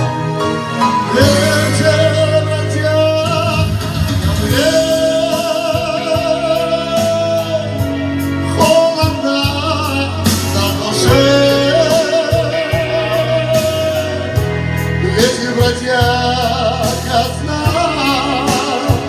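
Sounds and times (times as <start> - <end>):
instrumental backing: 0.0 - 19.0
person singing with vibrato: 0.7 - 19.0.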